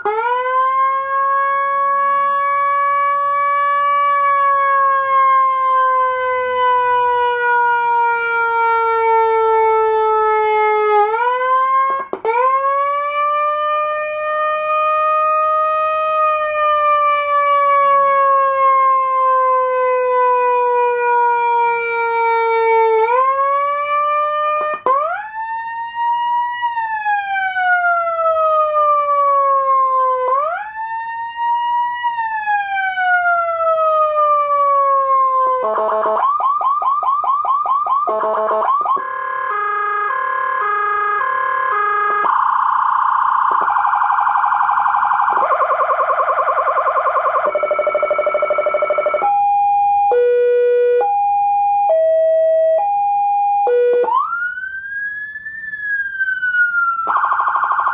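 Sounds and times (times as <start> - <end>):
electronic siren wailing: 0.0 - 57.9.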